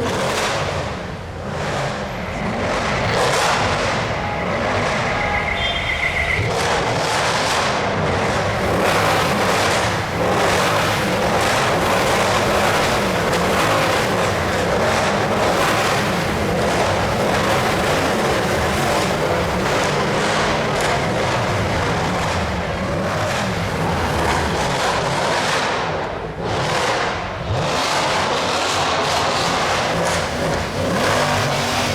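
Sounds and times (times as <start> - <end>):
engine revving loudly: 0.0 - 31.9.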